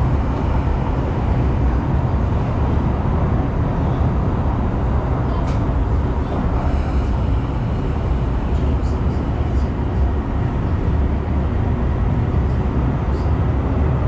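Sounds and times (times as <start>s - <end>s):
train interior rumble: 0.0s - 14.0s.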